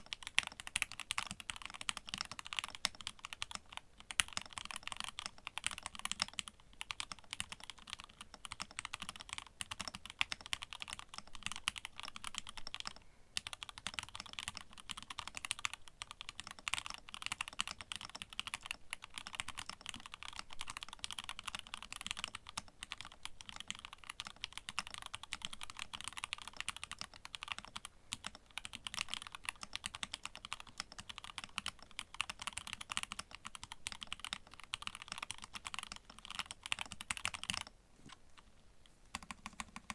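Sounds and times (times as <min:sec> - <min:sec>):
fast typing on mechanical keyboard: 0:00.0 - 0:37.7, 0:39.1 - 0:39.9.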